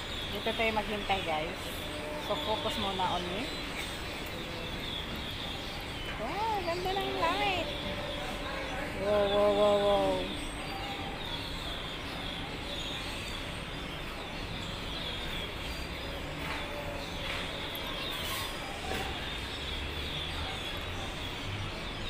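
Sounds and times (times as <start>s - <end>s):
flock of small birds chirping: 0.0s - 22.0s.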